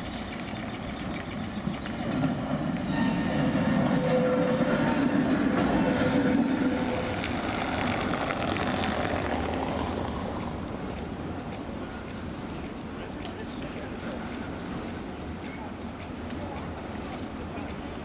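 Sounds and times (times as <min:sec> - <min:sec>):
distant tram rumble on curve: 0:00.0 - 0:18.0
tram passing with hum and whine: 0:00.0 - 0:18.0.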